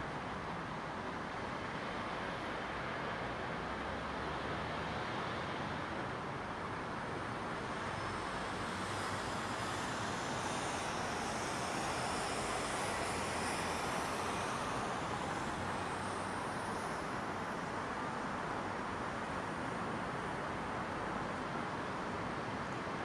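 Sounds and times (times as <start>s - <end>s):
distant traffic hiss: 0.0s - 23.0s
passing vehicles: 0.0s - 23.0s.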